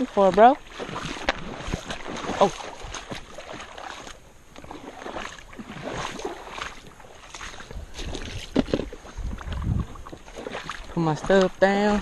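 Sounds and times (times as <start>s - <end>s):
person wading through creek water: 0.0s - 12.0s.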